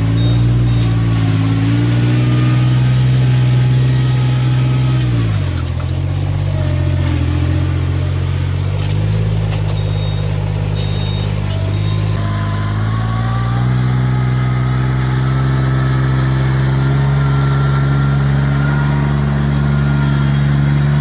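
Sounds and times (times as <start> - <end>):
farm machine engine running: 0.0 - 21.0.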